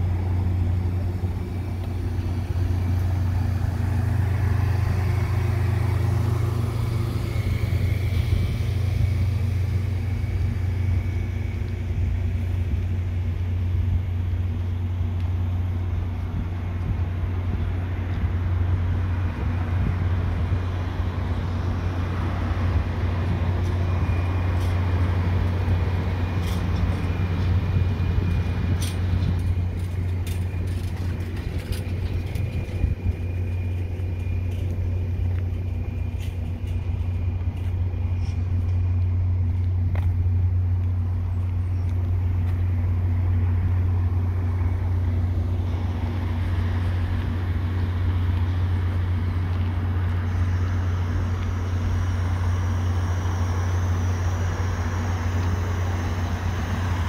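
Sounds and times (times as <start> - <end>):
train low mechanical hum: 0.0 - 57.0.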